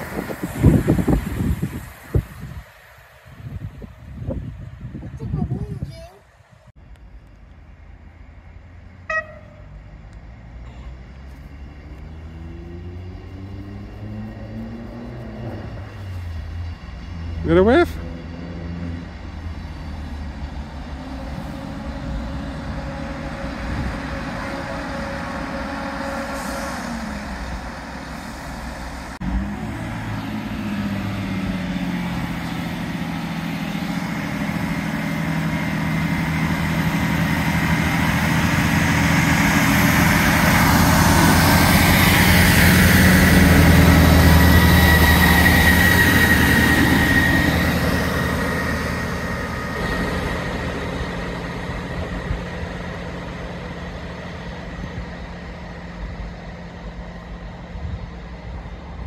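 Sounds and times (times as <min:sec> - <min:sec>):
diesel train engine rumbling: 0:00.0 - 0:59.0.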